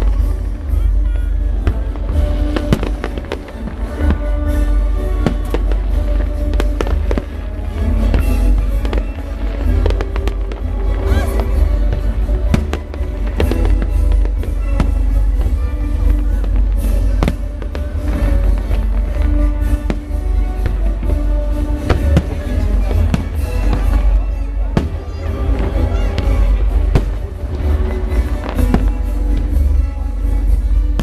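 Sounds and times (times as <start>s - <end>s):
fireworks banging: 0.0s - 31.0s
music playing: 0.0s - 31.0s.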